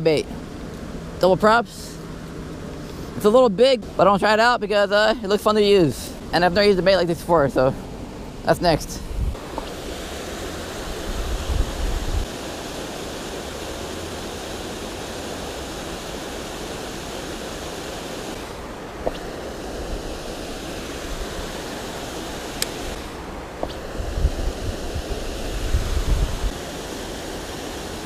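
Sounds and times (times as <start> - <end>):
rushing outdoor noise: 0.0 - 28.0.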